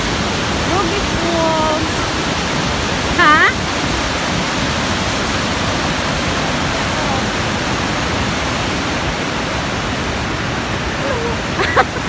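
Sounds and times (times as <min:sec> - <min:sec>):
waterfall and rapids rushing: 0:00.0 - 0:12.0.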